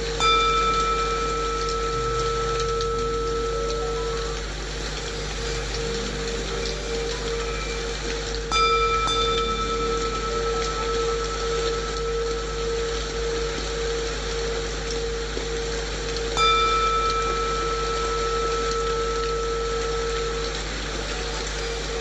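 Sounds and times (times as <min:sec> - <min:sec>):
low sustained hum: 0:00.0 - 0:22.0
rain-like white noise: 0:00.0 - 0:22.0
singing bowl ringing: 0:00.0 - 0:22.0.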